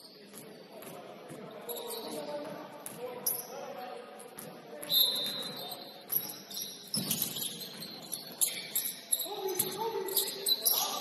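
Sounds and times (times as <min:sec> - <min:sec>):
shoes squeaking on gym floor: 0:00.0 - 0:11.0.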